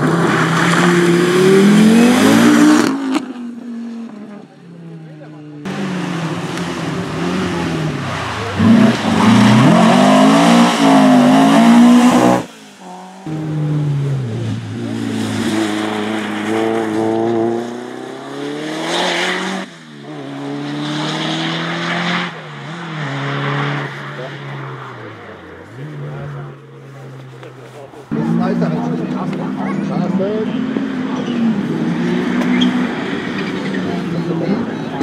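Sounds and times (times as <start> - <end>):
rally car engines revving past: 0.0 - 35.0.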